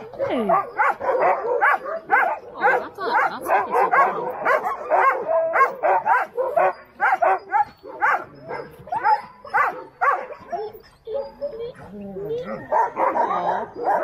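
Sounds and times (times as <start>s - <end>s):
sled dogs barking and yipping: 0.0s - 14.0s.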